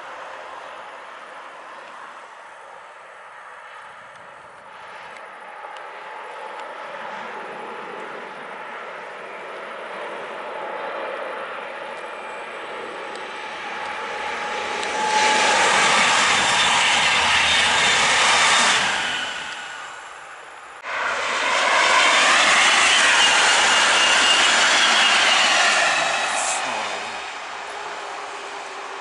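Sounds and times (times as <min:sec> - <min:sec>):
high-speed train rushing past: 0:00.0 - 0:04.0, 0:04.7 - 0:29.0.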